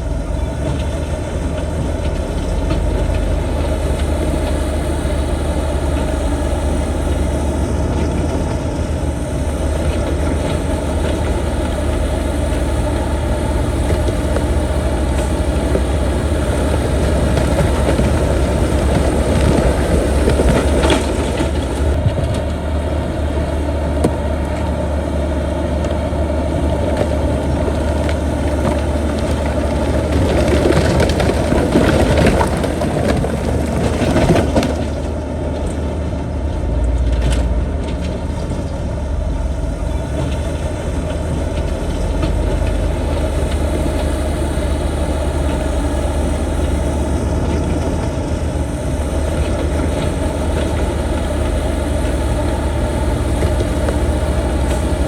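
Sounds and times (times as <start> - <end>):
heavy diesel engine running: 0.0 - 55.0
loud noisy rumbling: 0.0 - 55.0.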